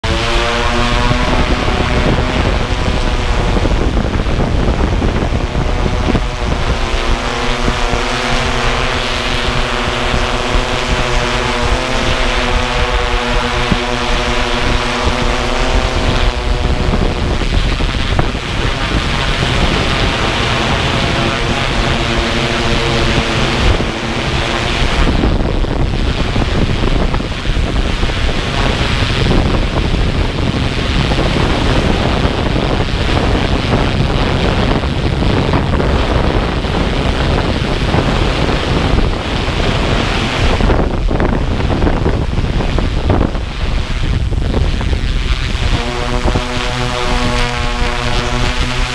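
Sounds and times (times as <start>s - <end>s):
drone propellers buzzing: 0.0s - 48.9s
wind rushing over microphone: 0.0s - 48.9s.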